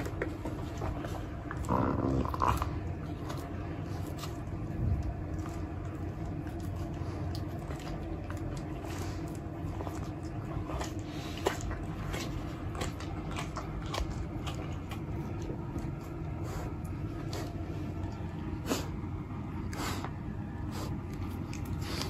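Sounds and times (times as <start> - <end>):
animal chewing raw meat: 0.0 - 22.0.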